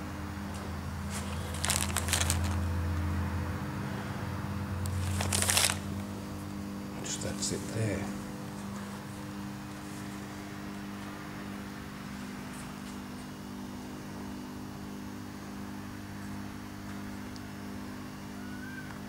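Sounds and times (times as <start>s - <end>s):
machine low hum: 0.0s - 19.0s.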